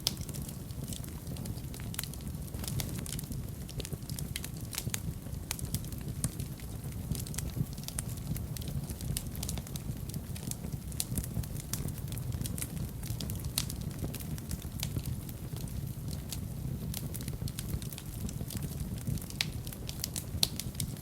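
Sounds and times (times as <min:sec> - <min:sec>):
fireplace fire crackling: 0:00.0 - 0:21.0
low rumble of flames: 0:00.0 - 0:21.0.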